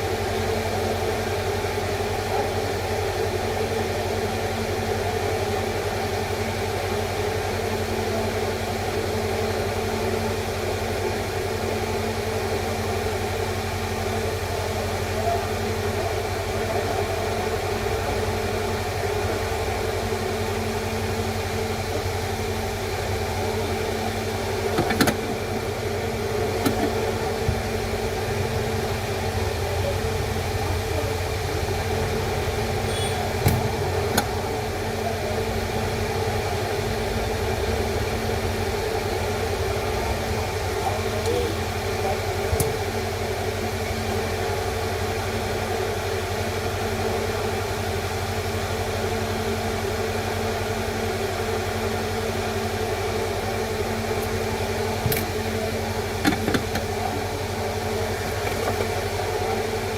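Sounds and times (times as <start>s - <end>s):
steady droning hum: 0.0s - 59.9s.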